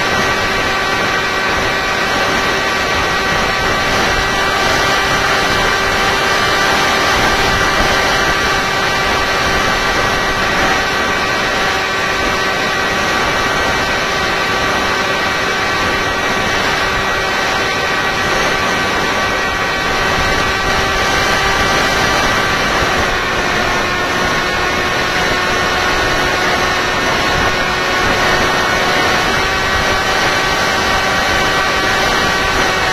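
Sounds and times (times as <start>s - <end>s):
electric motor whining hum: 0.0s - 32.9s
wind rushing: 0.0s - 32.9s.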